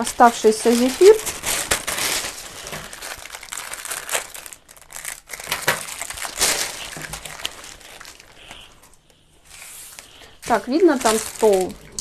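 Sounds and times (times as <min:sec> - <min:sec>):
plastic piping bag crinkling: 0:00.0 - 0:12.0.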